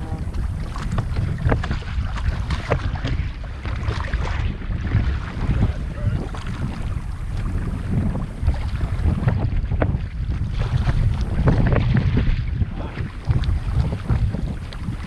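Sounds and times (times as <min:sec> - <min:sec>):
water sloshing: 0:00.0 - 0:15.0
wind buffeting microphone: 0:00.0 - 0:15.0.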